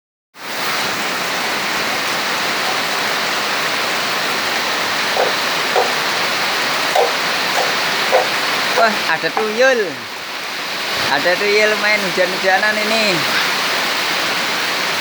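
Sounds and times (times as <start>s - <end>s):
heavy rain pouring: 0.4s - 15.0s.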